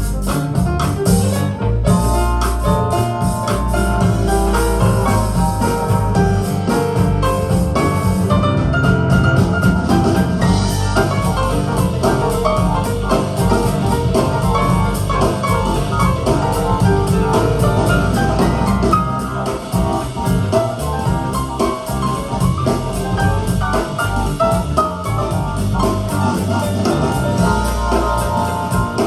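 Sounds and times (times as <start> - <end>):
instrumental music with drums: 0.0 - 29.0
strong bass line: 0.0 - 29.0.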